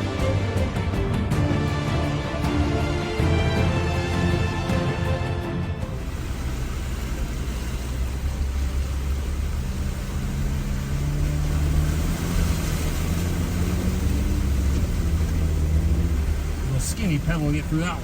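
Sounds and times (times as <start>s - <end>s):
off-road vehicle engine rumbling: 0.0s - 18.0s.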